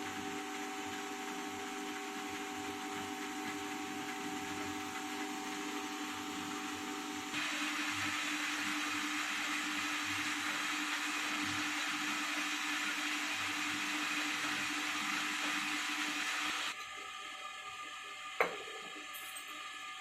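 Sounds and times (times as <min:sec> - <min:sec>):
mixer grinder running: 0:00.0 - 0:20.0.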